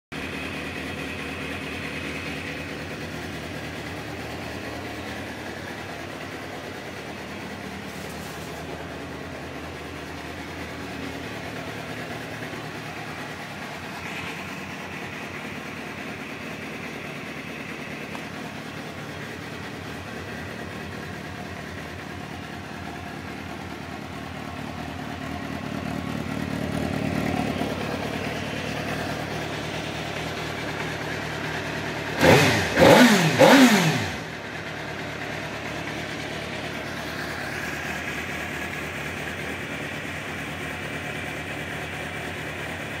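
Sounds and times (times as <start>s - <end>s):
motorcycle engine idling and revving: 0.1s - 43.0s.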